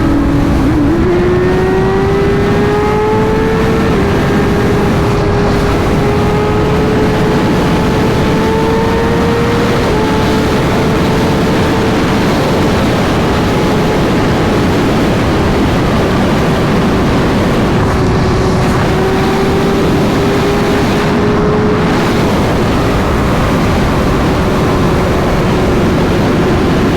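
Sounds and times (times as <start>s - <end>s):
loud rushing wind: 0.0s - 26.9s
motorcycle engine at high revs: 0.0s - 26.9s.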